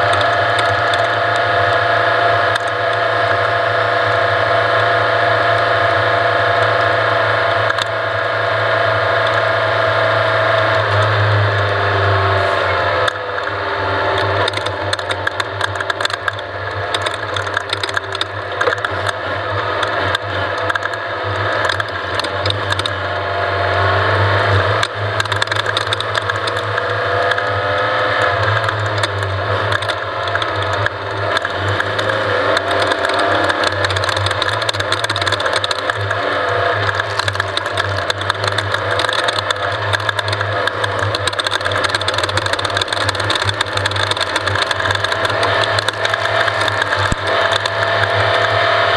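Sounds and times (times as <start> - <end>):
engine revving: 0.0 - 48.9.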